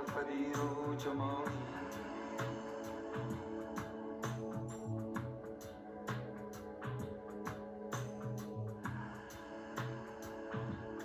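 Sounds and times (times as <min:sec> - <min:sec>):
gentle background music: 0:00.0 - 0:11.0.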